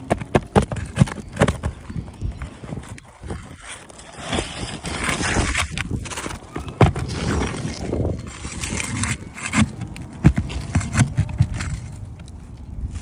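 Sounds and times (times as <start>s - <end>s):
tool scraping under shingle: 0.0s - 13.0s.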